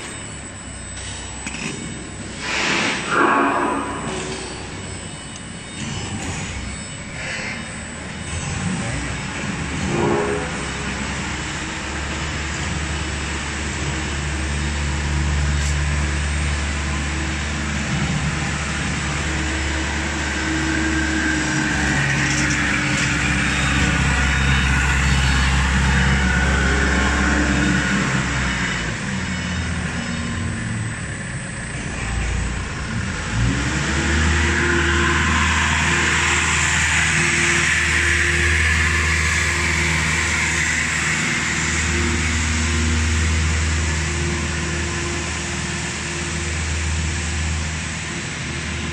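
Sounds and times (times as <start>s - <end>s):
machinery low drone: 0.0s - 48.9s.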